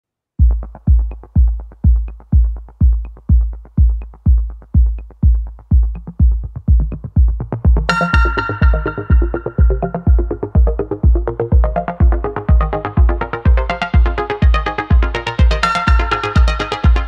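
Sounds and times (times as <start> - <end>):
kick-drum beat: 0.4 - 17.0
hi-hat ticks: 0.5 - 17.0.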